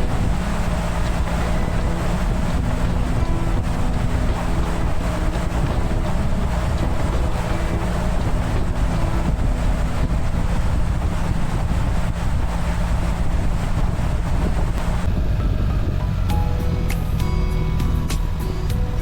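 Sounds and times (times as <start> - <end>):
motorcycle engine droning: 0.0 - 19.0
wind buffeting microphone: 0.0 - 19.0.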